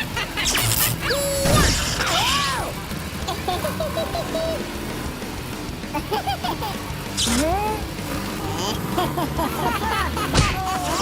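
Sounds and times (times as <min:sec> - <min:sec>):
vehicle engine rumble: 0:00.0 - 0:10.4.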